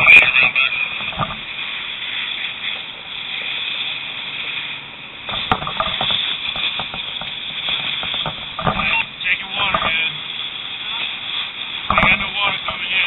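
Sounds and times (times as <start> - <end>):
crackles and clicks: 0.0 - 13.0
steam and water spray hissing: 0.0 - 13.0.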